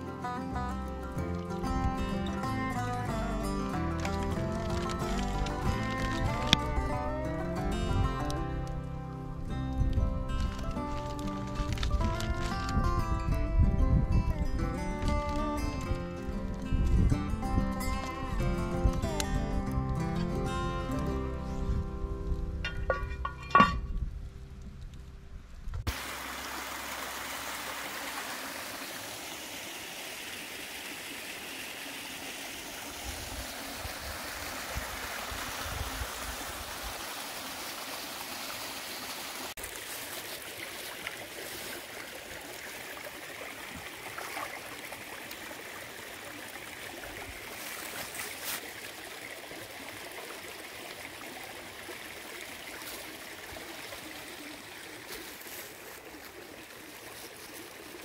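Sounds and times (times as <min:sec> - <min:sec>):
stream running over rocks: 0:00.0 - 0:25.2, 0:25.8 - 0:58.0.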